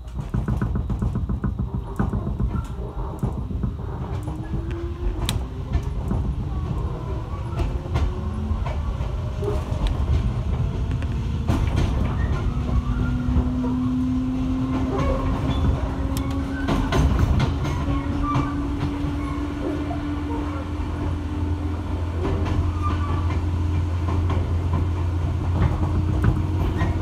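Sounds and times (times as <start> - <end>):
clicks over rail joints: 0.0 - 19.8, 22.2 - 27.0
train motor whine: 0.0 - 27.0
train wheels rumbling: 0.0 - 27.0.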